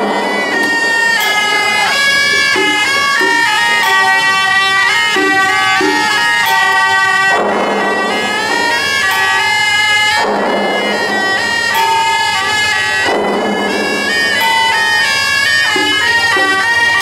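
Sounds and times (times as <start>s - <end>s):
percussion crash: 0.0s - 17.0s
reedy shawm band melody: 0.0s - 17.0s.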